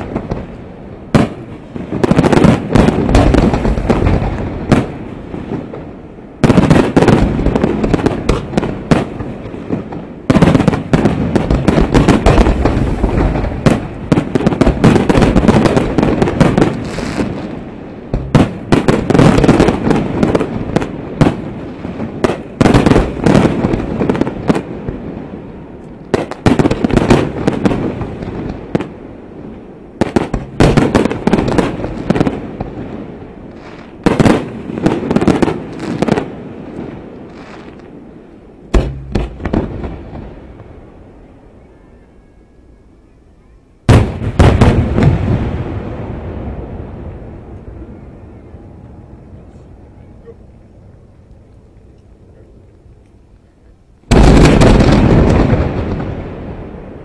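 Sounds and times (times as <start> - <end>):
fireworks bursting: 0.0 - 41.1, 43.8 - 47.5, 54.1 - 57.0.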